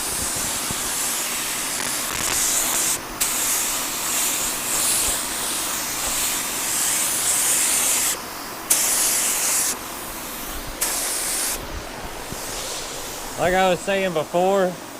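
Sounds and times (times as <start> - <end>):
paint spray gun hissing: 0.0 - 14.5.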